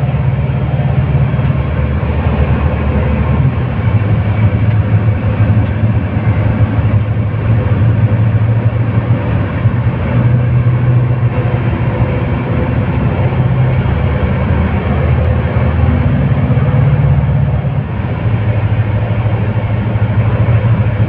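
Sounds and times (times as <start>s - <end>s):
bus diesel engine drone: 0.0s - 21.0s
road noise: 0.0s - 21.0s.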